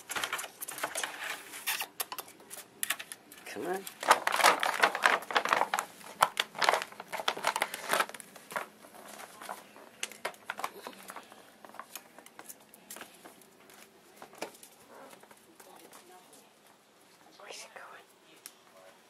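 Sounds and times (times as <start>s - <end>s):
packing material crinkling: 0.0s - 16.4s.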